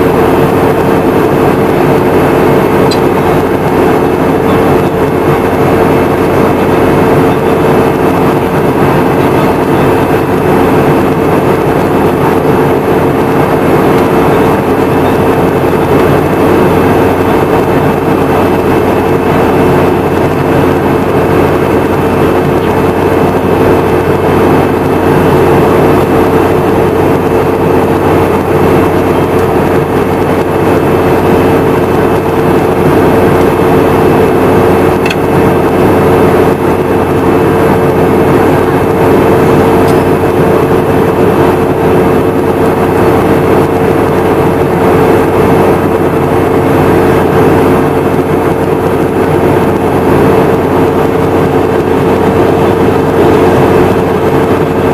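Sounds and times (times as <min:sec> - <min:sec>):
jet engines droning in cabin: 0:00.0 - 0:54.9.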